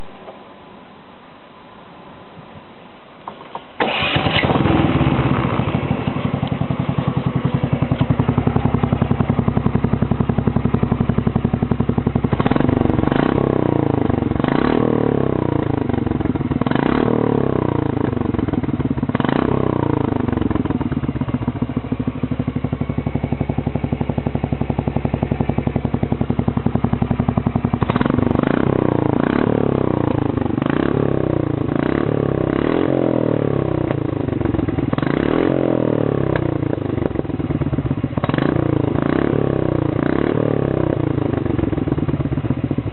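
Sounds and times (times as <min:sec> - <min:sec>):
scooter engine idling and revving: 0:03.8 - 0:42.9.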